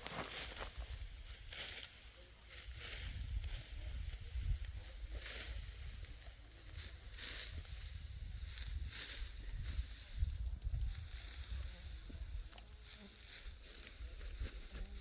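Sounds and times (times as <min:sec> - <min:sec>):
dry wheat stalks swishing: 0:00.0 - 0:15.0.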